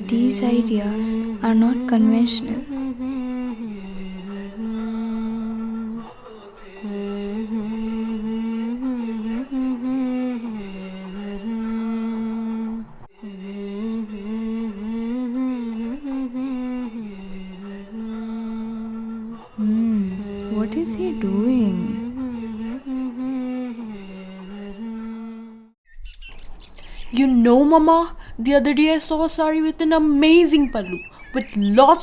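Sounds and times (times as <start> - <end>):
person humming a melody: 0.0 - 25.7.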